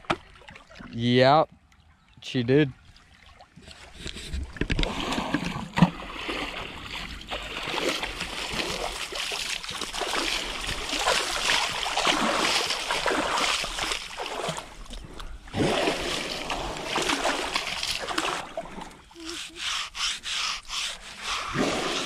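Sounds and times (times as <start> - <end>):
water splashing: 2.7 - 22.0.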